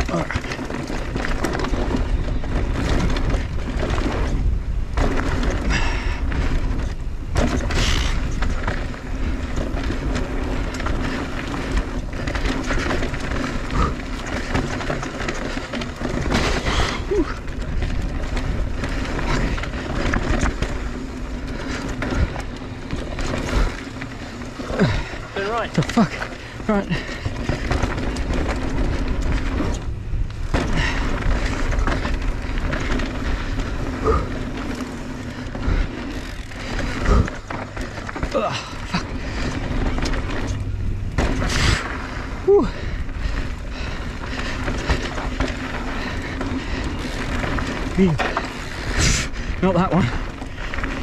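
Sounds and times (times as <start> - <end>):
bike knocks and rattles: 0.0 - 51.0
tyres rolling over dirt and rock: 0.0 - 51.0.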